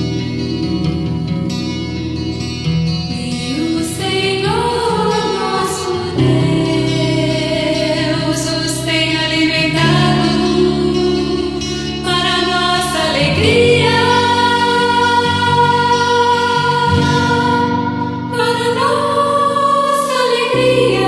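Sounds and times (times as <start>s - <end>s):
vocal group singing held chords: 0.0s - 21.0s.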